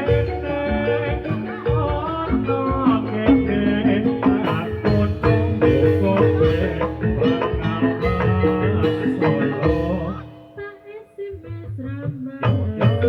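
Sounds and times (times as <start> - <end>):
low drum beats: 0.0 - 10.7
struck metallophone tones: 0.0 - 13.0.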